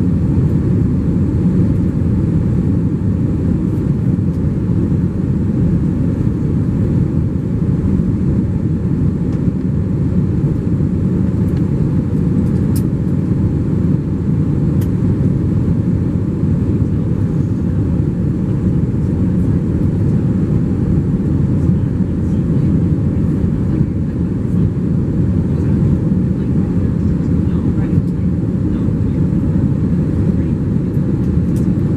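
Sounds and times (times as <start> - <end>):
airflow over fuselage: 0.0 - 31.9
jet engines rumbling: 0.0 - 31.9.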